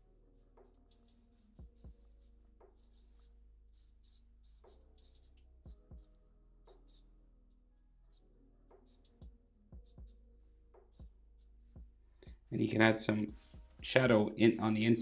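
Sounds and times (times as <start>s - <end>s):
pen scratching on paper: 0.0s - 7.2s, 8.0s - 15.0s.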